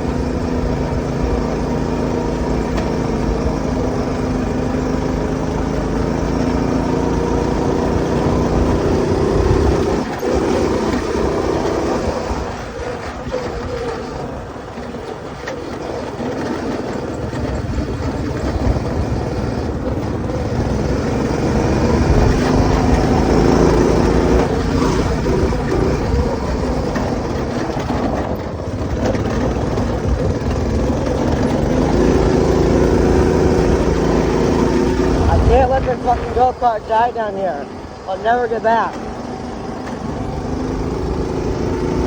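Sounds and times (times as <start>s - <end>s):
go-kart engine revving: 0.0s - 42.0s.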